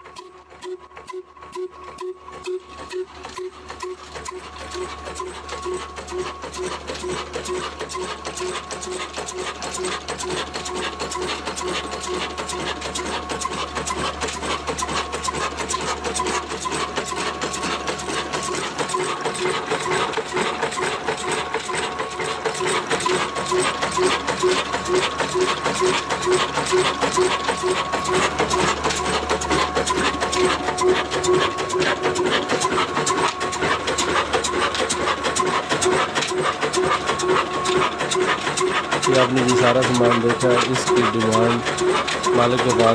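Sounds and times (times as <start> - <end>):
diesel engine clattering: 0.0 - 42.9.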